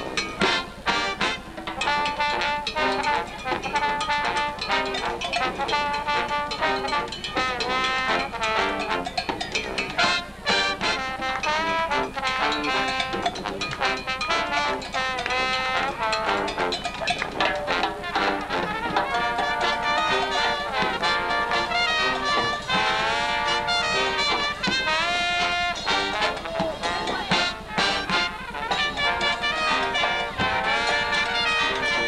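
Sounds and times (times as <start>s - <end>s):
brass band playing: 0.0s - 32.0s
drum beat: 0.0s - 32.0s.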